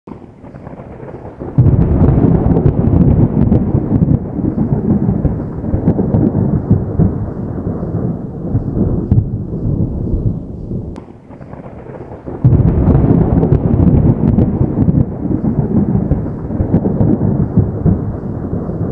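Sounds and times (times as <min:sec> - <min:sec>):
distant thunder rumbling: 0:00.1 - 0:18.9.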